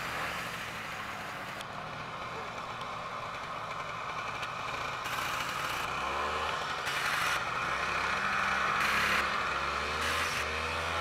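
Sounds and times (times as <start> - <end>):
snowmobile engines running: 0.0 - 11.0.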